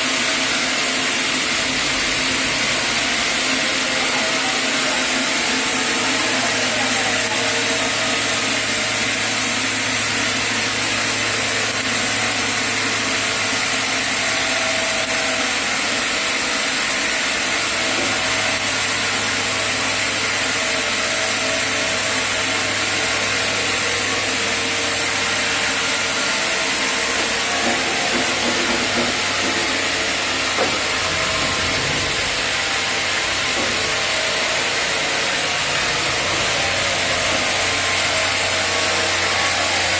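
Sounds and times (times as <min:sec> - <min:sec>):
saw blade cutting log: 0:00.0 - 0:39.9
saw motor humming: 0:00.0 - 0:39.9.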